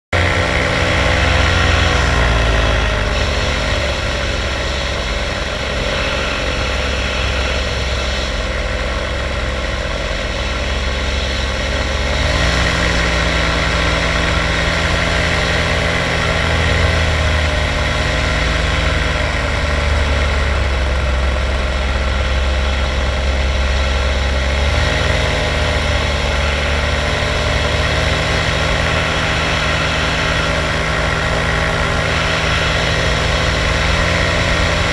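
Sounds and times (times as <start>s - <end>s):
paramotor engine running: 0.1s - 34.9s.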